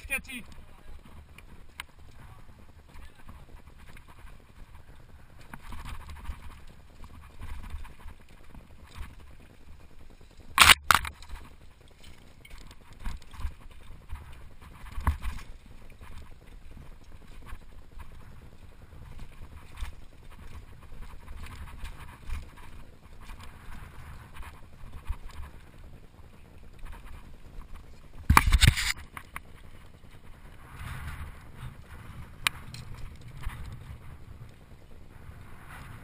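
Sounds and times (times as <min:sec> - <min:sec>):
mountain bike rattling: 0:00.0 - 0:36.0.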